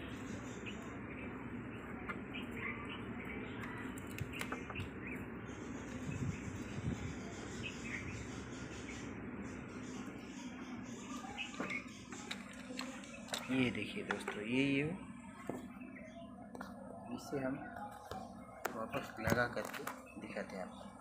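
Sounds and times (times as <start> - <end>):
small birds chirping: 0.0 - 21.0
steady background noise: 0.0 - 21.0.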